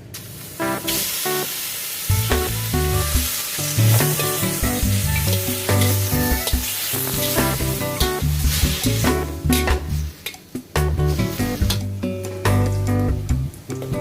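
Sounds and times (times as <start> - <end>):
food sizzling in a pan: 0.2 - 12.3
background music: 0.6 - 14.0.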